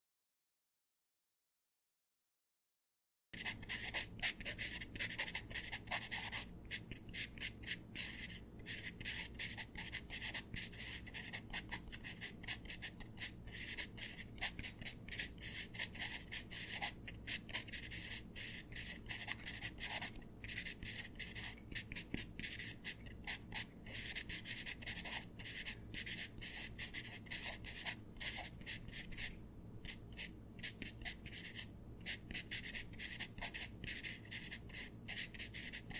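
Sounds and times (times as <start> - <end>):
pencil scribbling on paper: 3.4 - 35.9.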